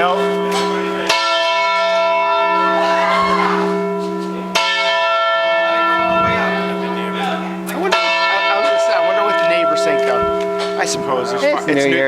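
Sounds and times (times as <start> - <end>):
heavy church bell tolling: 0.0 - 12.0.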